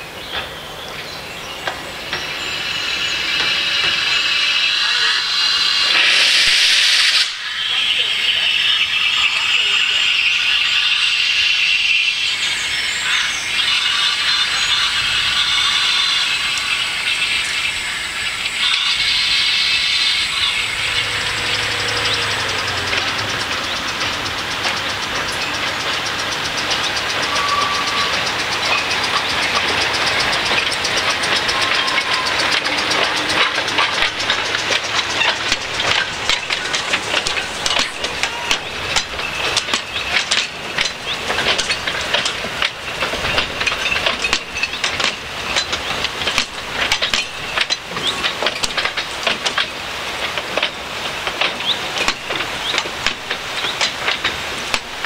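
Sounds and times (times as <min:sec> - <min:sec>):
steam hissing from locomotives: 0:00.0 - 0:55.0
train wheels clicking over rail joints: 0:00.0 - 0:55.0.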